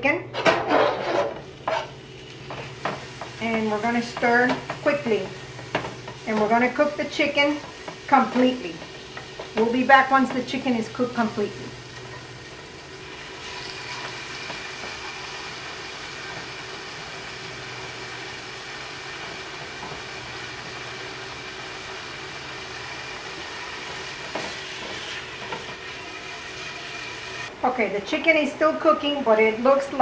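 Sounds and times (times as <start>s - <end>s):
chicken sizzling in a skillet: 1.4s - 27.5s.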